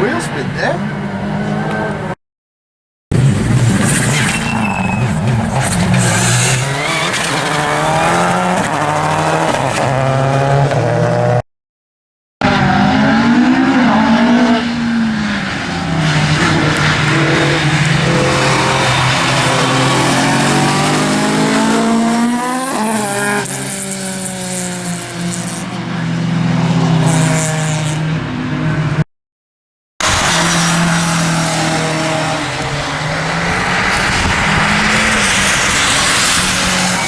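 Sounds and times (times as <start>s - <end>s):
rally car engine revving: 0.0s - 2.2s, 3.1s - 11.4s, 12.4s - 29.0s, 30.0s - 37.0s.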